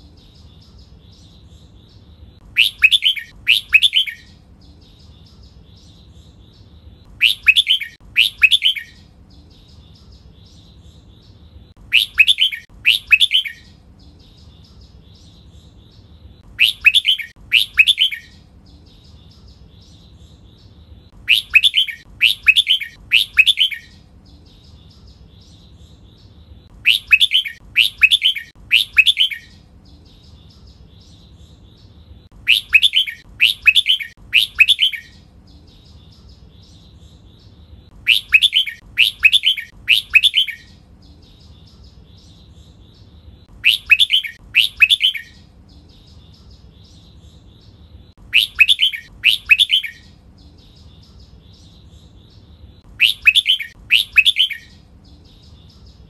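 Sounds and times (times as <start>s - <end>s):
bird whistled song: 0.2s - 11.1s, 11.8s - 56.0s.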